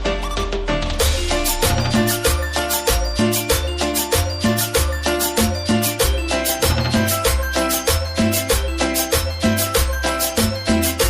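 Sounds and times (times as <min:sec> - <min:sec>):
cumbia music: 0:00.0 - 0:11.0
high percussion rhythm: 0:00.0 - 0:11.0.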